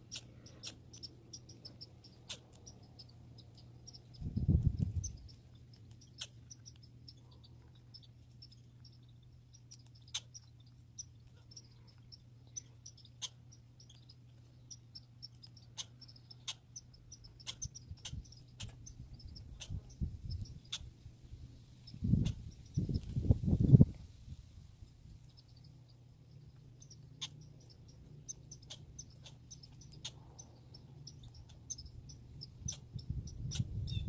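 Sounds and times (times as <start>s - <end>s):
squirrel clicks and ticks: 0.0s - 24.0s, 25.1s - 34.0s
faint low hum: 0.0s - 34.0s.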